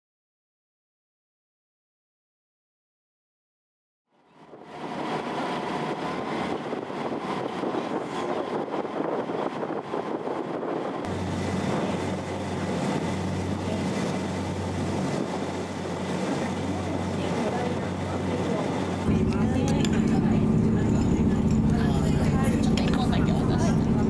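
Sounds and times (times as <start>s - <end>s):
boat rushing noise: 4.2s - 24.0s
low engine hum: 4.2s - 24.0s.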